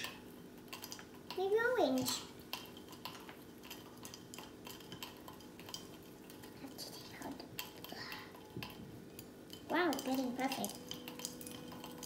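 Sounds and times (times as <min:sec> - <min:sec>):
faint steady hum: 0:00.0 - 0:12.0
stirrer clinking against glass: 0:00.0 - 0:12.0.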